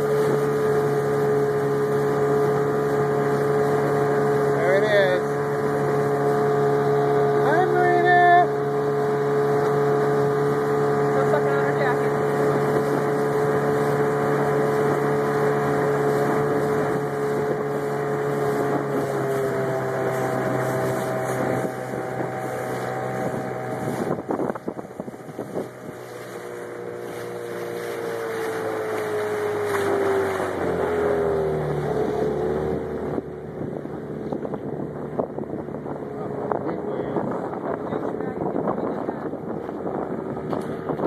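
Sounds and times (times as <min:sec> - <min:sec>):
outboard motor running: 0:00.0 - 0:41.0
wind on microphone: 0:00.0 - 0:41.0.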